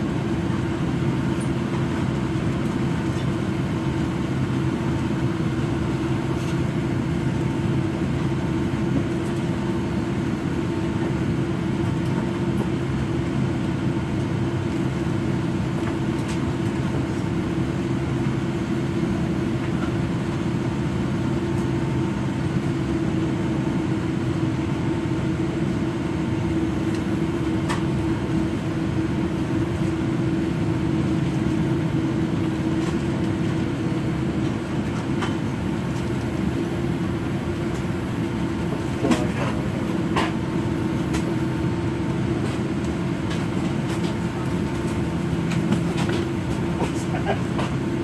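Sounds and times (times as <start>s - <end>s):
aircraft cabin drone: 0.0s - 48.0s.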